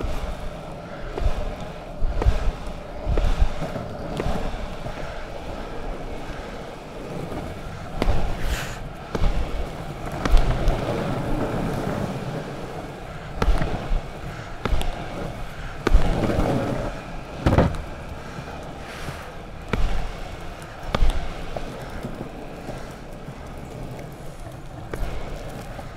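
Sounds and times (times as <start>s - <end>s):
longboard wheels rolling on tarmac: 0.0s - 25.9s.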